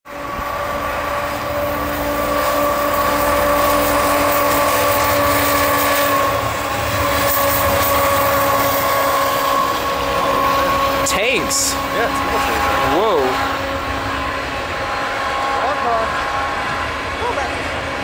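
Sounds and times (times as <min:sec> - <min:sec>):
freight train passing: 0:00.0 - 0:18.0
wind buffeting microphone: 0:00.1 - 0:18.0.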